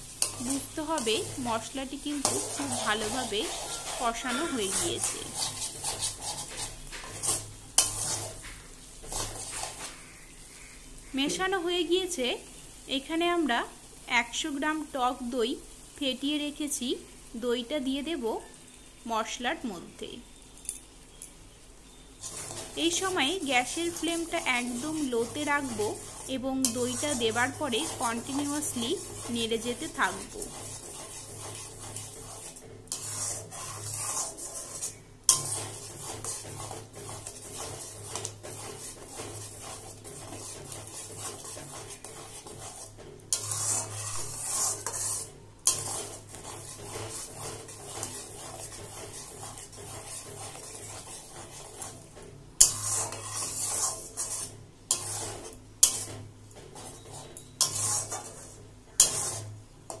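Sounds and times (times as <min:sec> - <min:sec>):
spatula scraping in a pan: 0:00.0 - 0:11.6, 0:21.9 - 1:00.0.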